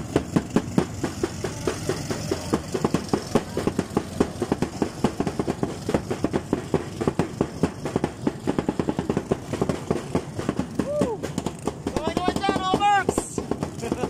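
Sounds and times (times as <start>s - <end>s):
boat engine chugging: 0.0s - 14.0s.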